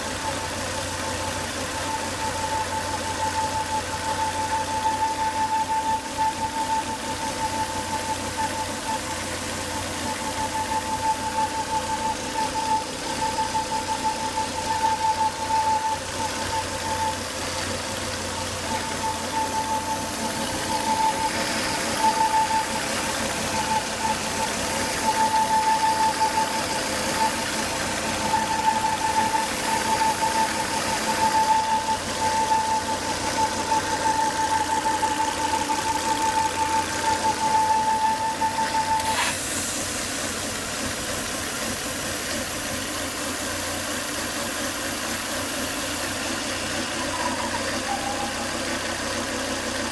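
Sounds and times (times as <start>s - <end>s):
car engine idling: 0.0s - 49.9s
high pulsing whine: 0.0s - 49.9s.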